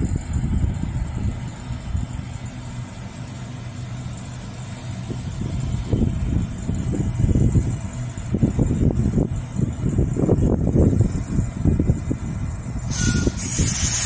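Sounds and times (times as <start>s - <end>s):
train rumble and hum: 0.0s - 14.0s.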